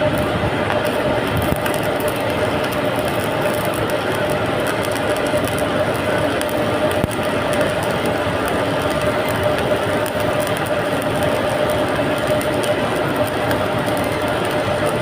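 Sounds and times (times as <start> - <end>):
constant hum: 0.0 - 15.0
welding arc crackling hiss: 0.0 - 15.0.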